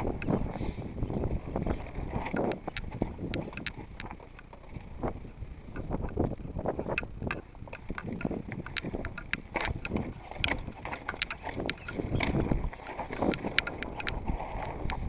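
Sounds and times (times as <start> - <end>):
steady low rumble: 0.0 - 15.0
bike clattering on rocks: 1.1 - 5.0, 5.8 - 15.0.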